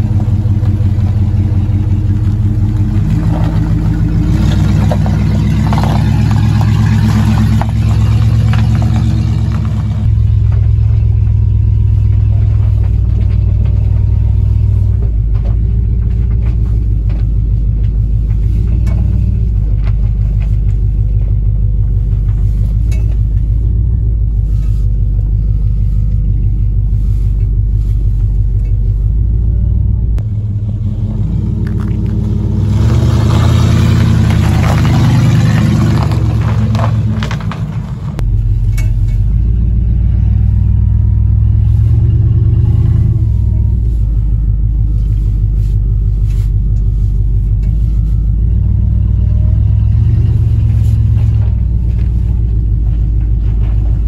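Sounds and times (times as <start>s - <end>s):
car engine rumble from inside cabin: 0.0s - 54.0s.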